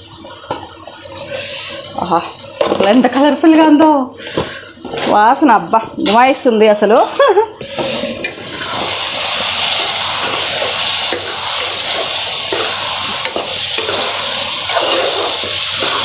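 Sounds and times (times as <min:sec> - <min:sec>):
food sizzling in oil: 0:00.0 - 0:16.0
spoon stirring and scraping pan: 0:00.2 - 0:16.0.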